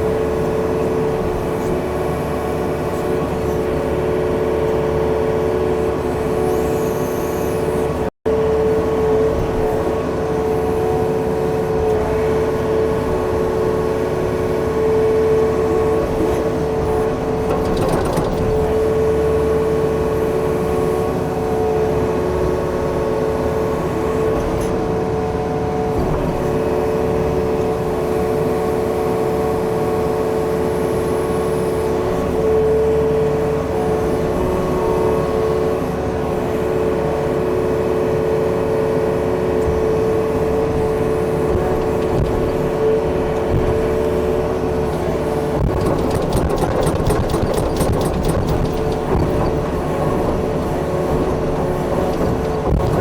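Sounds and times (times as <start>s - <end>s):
diesel engine running: 7.6s - 53.0s.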